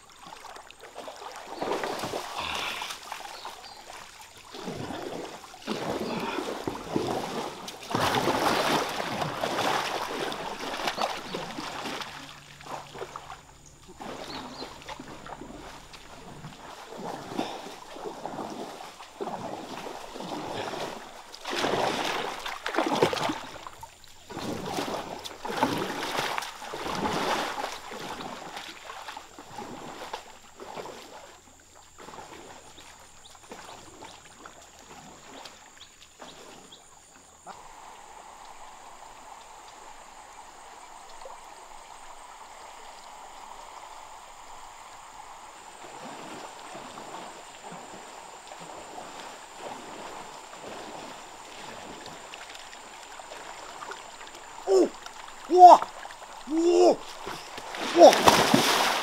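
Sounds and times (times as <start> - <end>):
canoe paddle splashing in water: 0.0 - 38.0, 39.4 - 59.0
flowing water hiss: 0.0 - 59.0.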